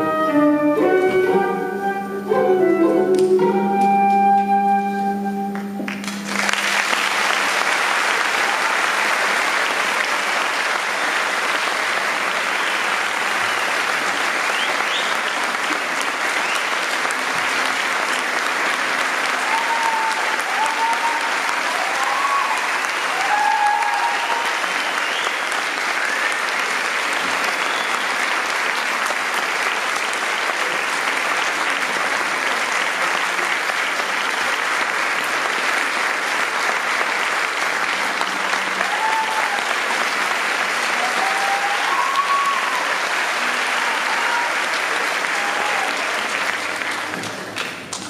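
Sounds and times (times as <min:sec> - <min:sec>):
audience applauding: 0:05.5 - 0:48.0
people cheering: 0:05.8 - 0:47.9.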